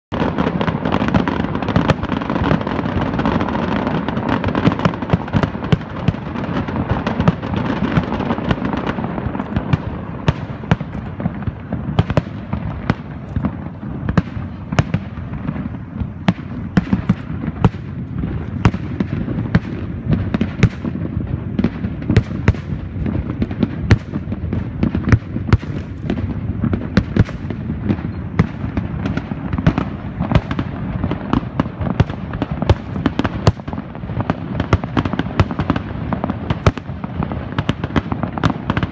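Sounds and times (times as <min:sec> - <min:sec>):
fireworks bangs and crackles: 0:00.1 - 0:38.9.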